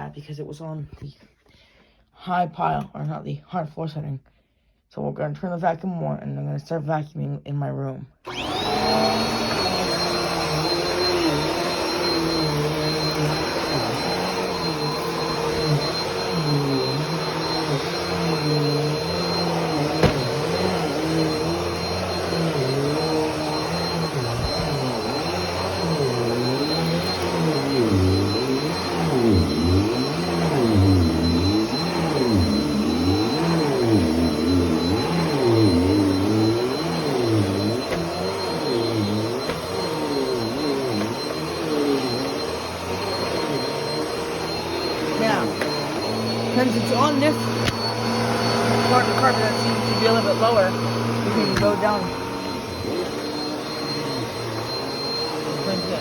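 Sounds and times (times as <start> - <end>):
vacuum cleaner motor whining: 8.3 - 56.0
vacuum hum on carpet: 8.3 - 56.0.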